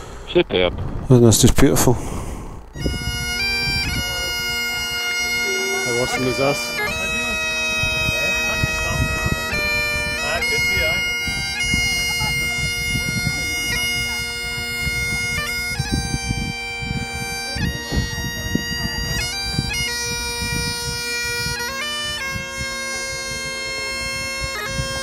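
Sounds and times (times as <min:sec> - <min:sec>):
bagpipe drones: 0:02.7 - 0:25.0
bagpipe chanter slow melody: 0:02.8 - 0:25.0.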